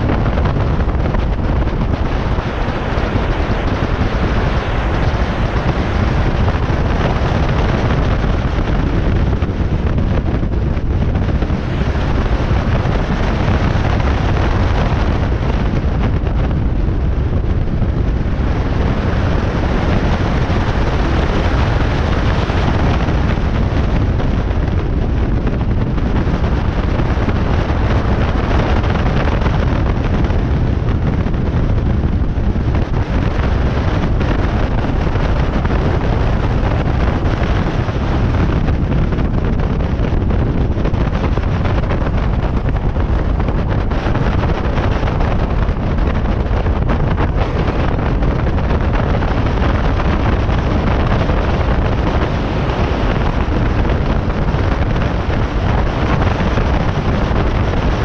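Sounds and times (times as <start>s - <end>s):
car running noise: 0.0s - 58.0s
wind buffeting microphone: 0.0s - 58.0s.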